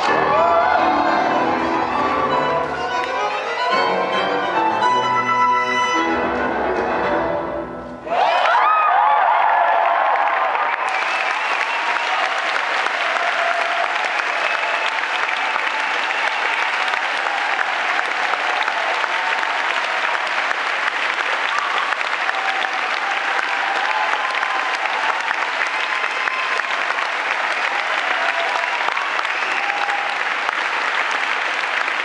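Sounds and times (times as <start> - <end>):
audience applauding: 0.0 - 3.5, 8.1 - 32.0.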